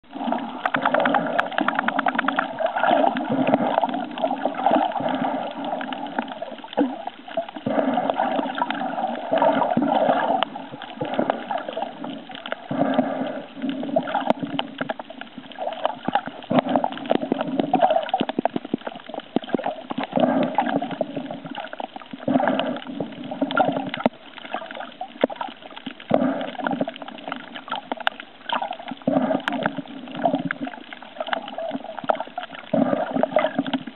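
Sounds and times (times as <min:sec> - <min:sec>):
water sloshing and gurgling: 0:00.0 - 0:33.9.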